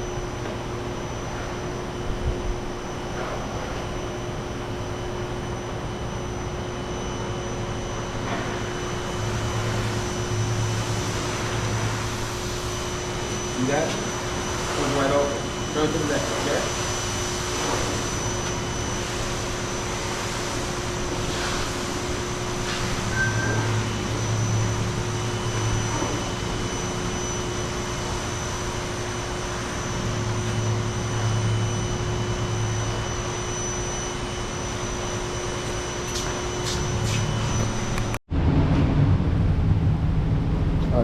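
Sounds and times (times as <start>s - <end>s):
machine drone: 0.0s - 41.0s.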